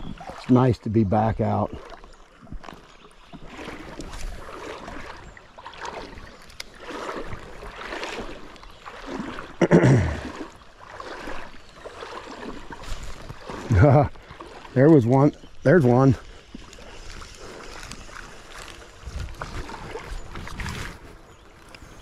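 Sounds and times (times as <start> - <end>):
water sloshing around wading legs: 0.0 - 22.0.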